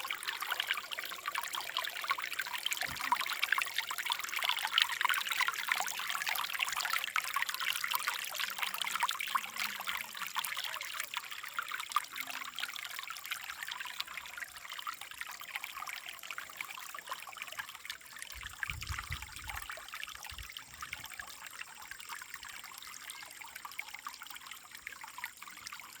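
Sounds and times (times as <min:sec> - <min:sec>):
water trickling over stones: 0:00.0 - 0:26.0.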